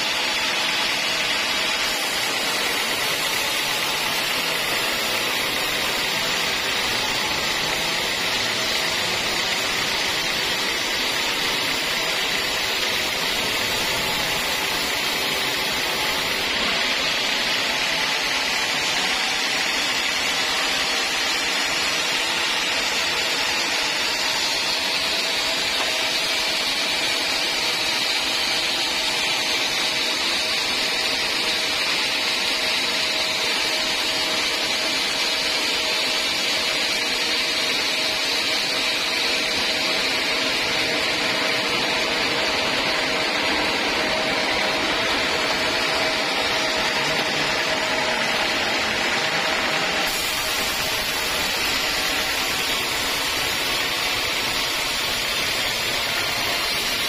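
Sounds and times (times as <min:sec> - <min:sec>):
band saw running: 0:00.0 - 0:57.0.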